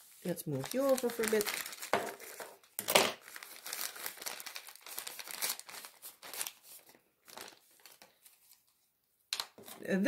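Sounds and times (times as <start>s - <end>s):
plastic bag crinkling: 0.2s - 8.6s.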